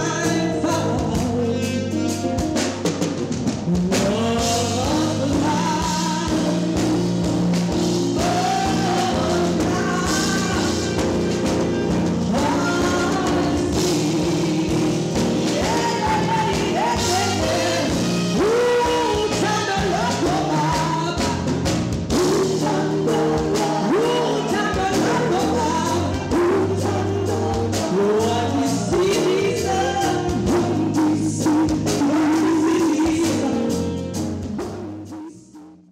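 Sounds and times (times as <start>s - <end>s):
woman singing gospel: 0.0s - 2.2s, 3.8s - 7.4s, 8.1s - 34.0s
keyboard and band backing: 0.0s - 35.9s.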